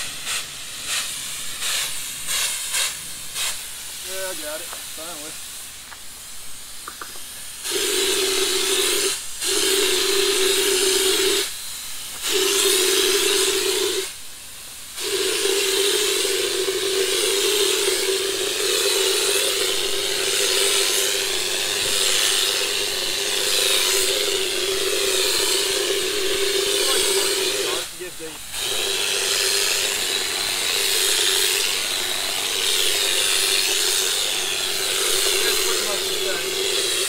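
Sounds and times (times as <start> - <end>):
spray gun hissing: 0.0 - 37.0.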